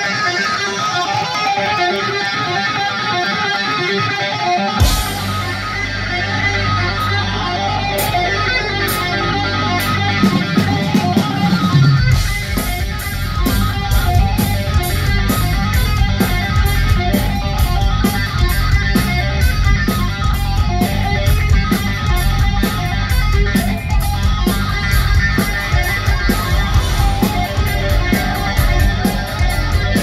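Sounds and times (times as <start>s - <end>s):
bass guitar: 0.0s - 30.0s
guitar and keyboard pattern: 0.0s - 30.0s
drum kit: 4.4s - 30.0s.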